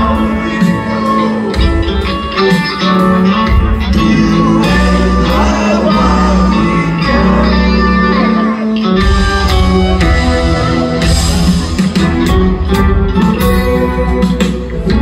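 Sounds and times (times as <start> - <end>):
deep bass notes: 0.0 - 15.0
electric guitar: 0.0 - 15.0
rock band playing loudly: 0.0 - 15.0.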